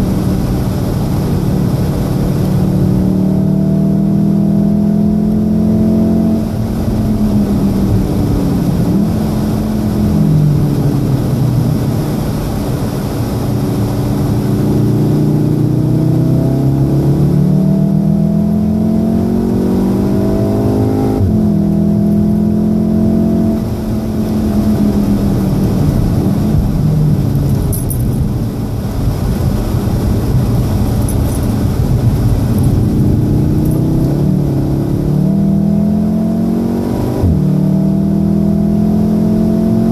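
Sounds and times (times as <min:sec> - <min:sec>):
car engine revving from inside cabin: 0:00.0 - 0:12.7, 0:13.6 - 0:28.1, 0:30.3 - 0:39.9.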